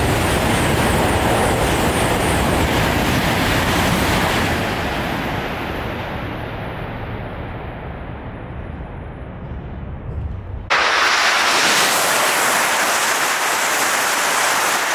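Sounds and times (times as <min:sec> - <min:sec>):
high-speed train rushing past: 0:00.0 - 0:14.9.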